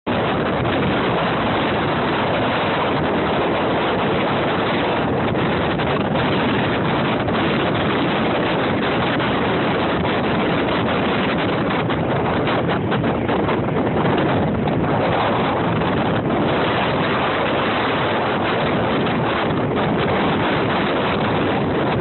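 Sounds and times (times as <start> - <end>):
strong wind on microphone: 0.0 - 22.0
surf: 0.0 - 22.0.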